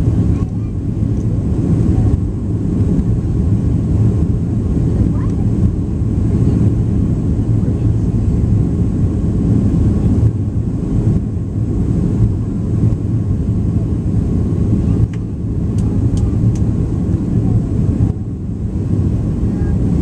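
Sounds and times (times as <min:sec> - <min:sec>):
low rumble of jet engines: 0:00.0 - 0:20.0.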